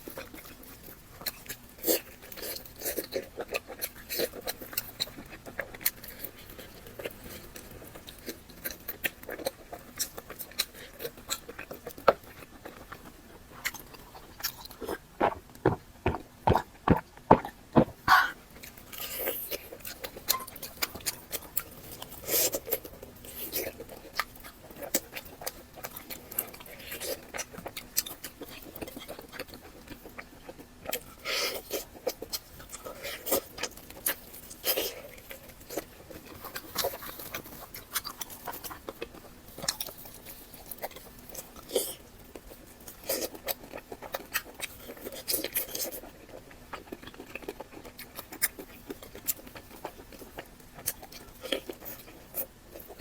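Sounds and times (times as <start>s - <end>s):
faint steady hum: 0.0s - 53.0s
person chewing and smacking: 0.0s - 53.0s.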